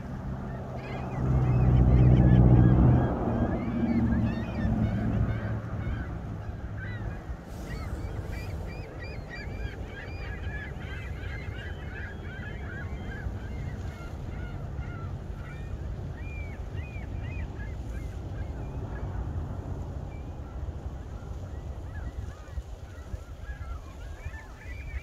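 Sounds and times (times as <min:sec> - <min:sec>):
gulls calling: 0:00.0 - 0:25.0.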